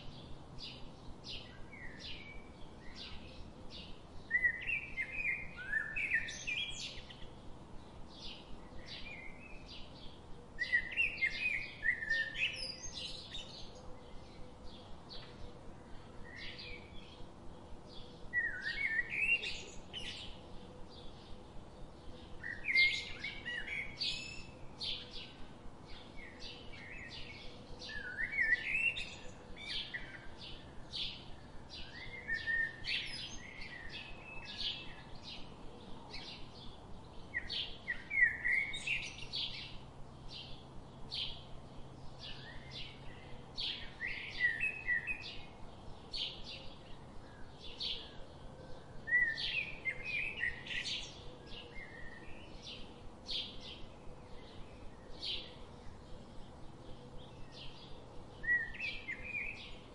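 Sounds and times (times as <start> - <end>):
high songbird chirps: 0.0 - 59.9.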